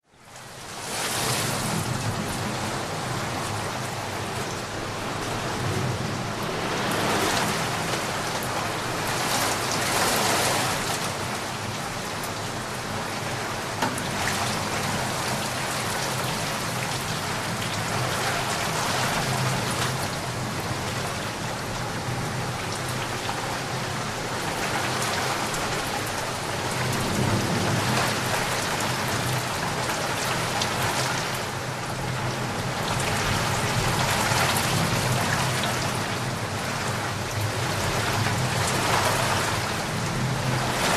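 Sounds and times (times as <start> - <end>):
heavy rainfall: 0.0 - 40.9.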